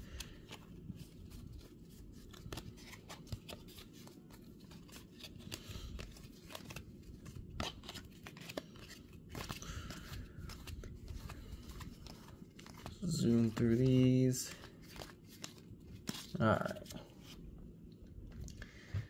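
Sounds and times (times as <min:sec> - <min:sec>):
cards flipped through by hand: 0:00.0 - 0:17.4.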